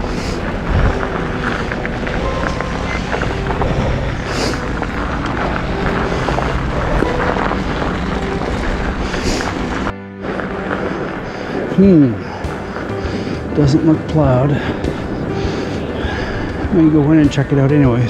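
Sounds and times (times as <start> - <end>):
bike tyres rolling: 0.0 - 18.0
wind rush on microphone: 0.0 - 18.0.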